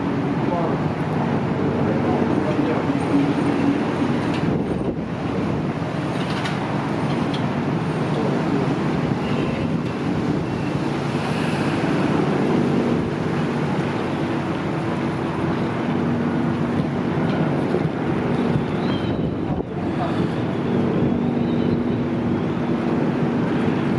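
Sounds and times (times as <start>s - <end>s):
ship engines humming: 0.0s - 23.9s
wind noise: 0.0s - 23.9s.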